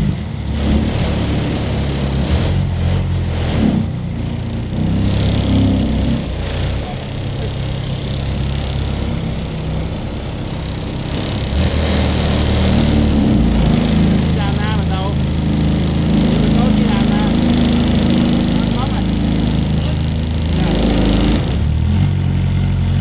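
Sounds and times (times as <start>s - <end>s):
small boat engine running: 0.0s - 23.0s.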